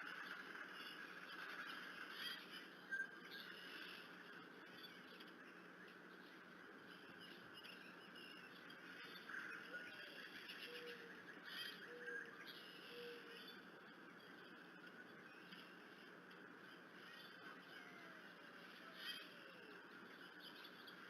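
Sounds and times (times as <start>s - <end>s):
distant bird calls: 0.0s - 21.0s.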